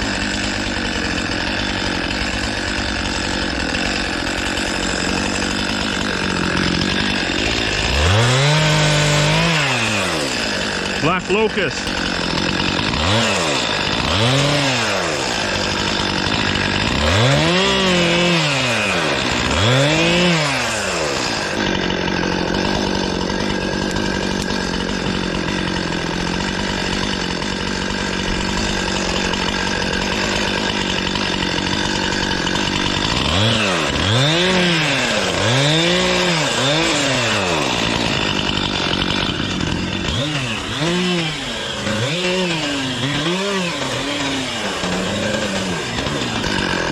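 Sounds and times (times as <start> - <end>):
chainsaw revving: 0.0 - 46.9.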